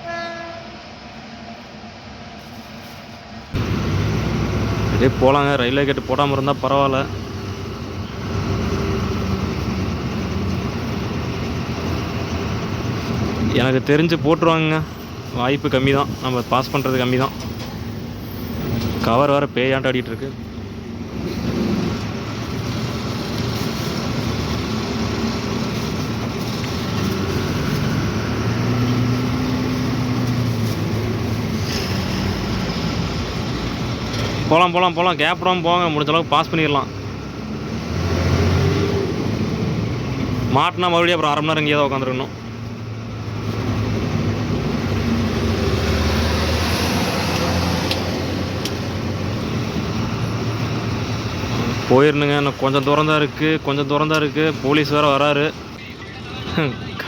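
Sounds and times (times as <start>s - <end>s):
road and cab noise: 0.0s - 57.0s
truck diesel engine running: 3.3s - 57.0s.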